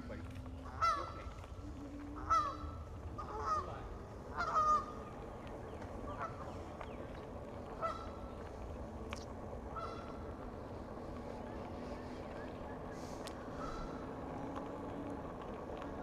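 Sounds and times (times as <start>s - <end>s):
geese honking: 0.1s - 16.0s.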